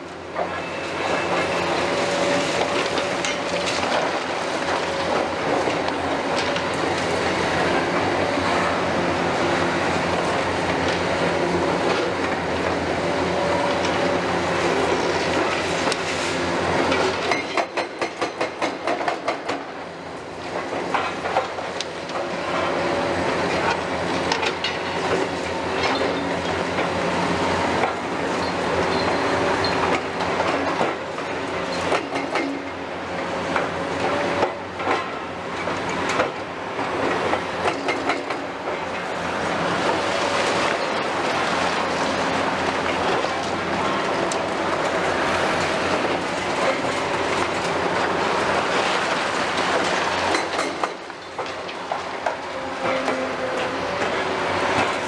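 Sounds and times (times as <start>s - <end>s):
excavator diesel engines running: 0.0s - 55.0s.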